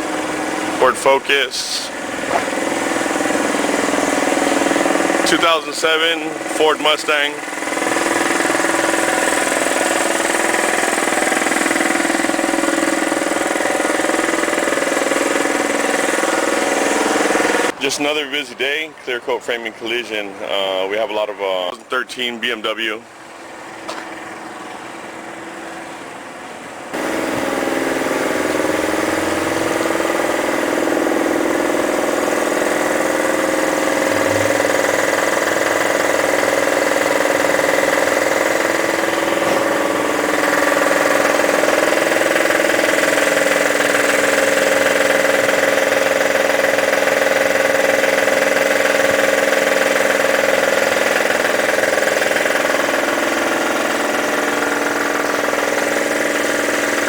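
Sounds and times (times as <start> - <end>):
machine running loudly: 0.0 - 17.8, 26.9 - 57.0.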